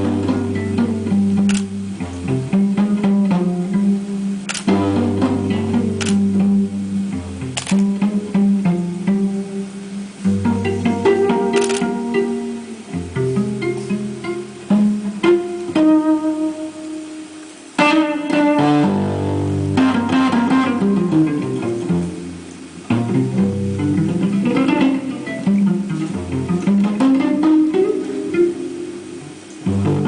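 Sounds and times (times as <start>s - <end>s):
guitar playing: 0.0s - 30.0s.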